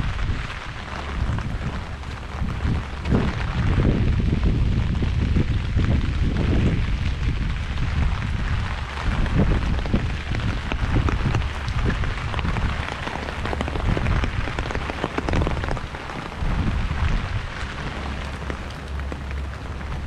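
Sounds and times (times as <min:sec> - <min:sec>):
low rumble: 0:00.0 - 0:20.0
rain on a paved road: 0:00.0 - 0:20.0.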